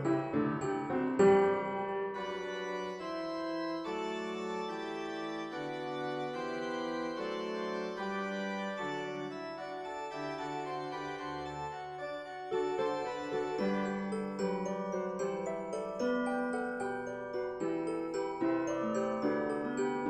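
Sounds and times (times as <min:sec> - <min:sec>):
organ-like keyboard chords: 0:00.0 - 0:20.0.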